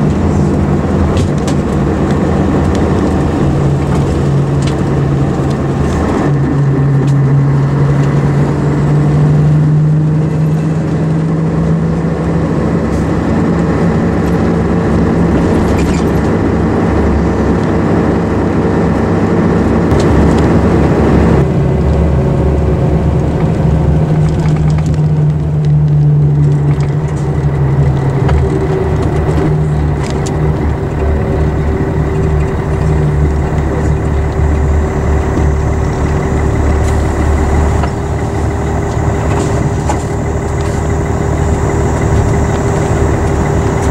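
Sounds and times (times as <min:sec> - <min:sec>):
diesel bus engine drone: 0:00.0 - 0:43.9
road noise: 0:00.0 - 0:43.9.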